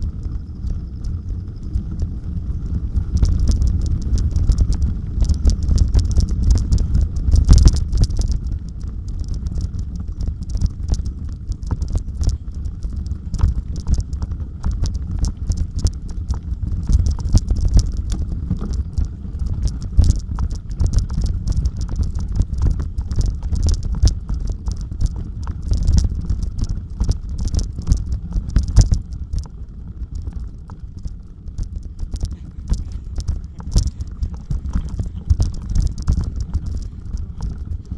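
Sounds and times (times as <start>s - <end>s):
bicycle rattling on rough trail: 0.0s - 37.9s
wind buffeting microphone: 0.0s - 37.9s.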